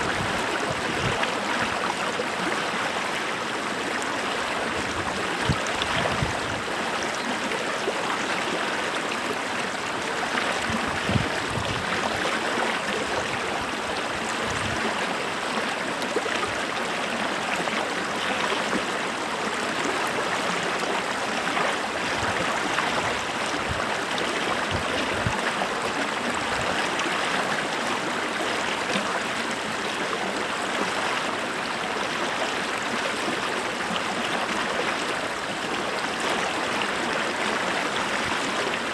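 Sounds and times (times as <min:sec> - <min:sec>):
stream gurgling over rocks: 0:00.0 - 0:38.9.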